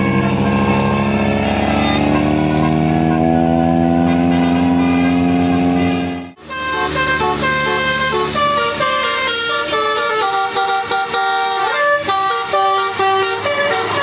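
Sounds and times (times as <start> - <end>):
multi-tone air horn playing a tune: 0.0 - 14.0.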